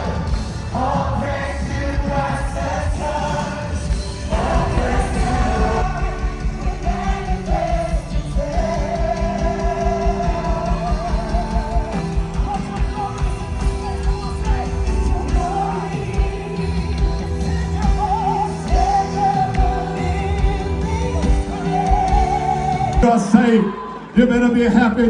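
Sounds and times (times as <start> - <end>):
bass beat: 0.0 - 23.0
person singing: 0.0 - 25.0.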